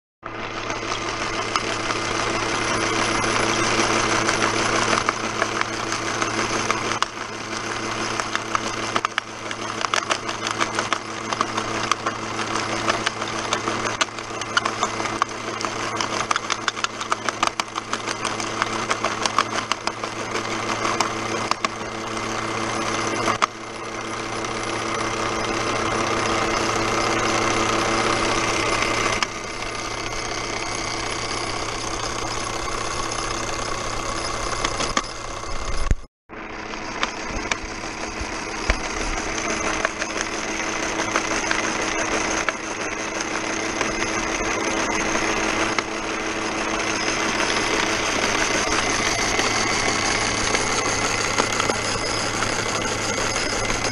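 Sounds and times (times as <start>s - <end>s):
electric motor humming: 0.3s - 53.9s.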